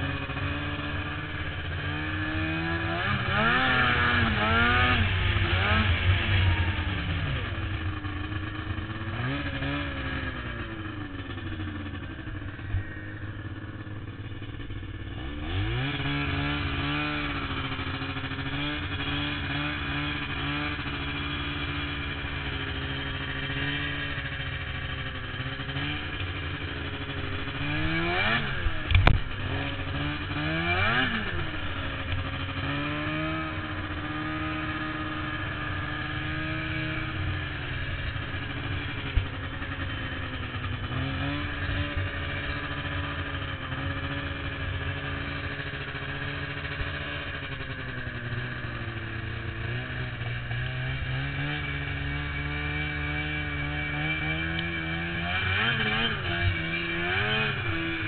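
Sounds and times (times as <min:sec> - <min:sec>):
vehicle engine revving: 0:00.0 - 0:58.0.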